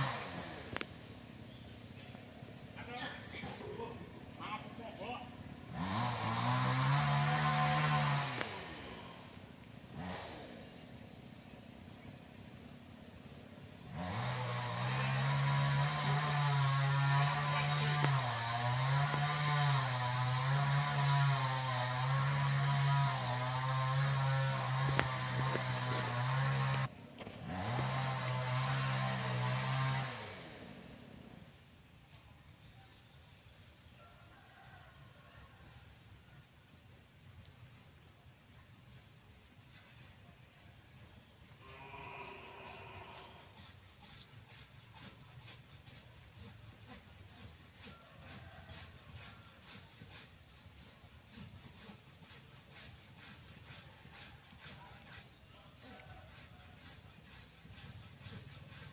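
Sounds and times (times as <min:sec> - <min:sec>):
chainsaw running: 0:00.0 - 0:58.9.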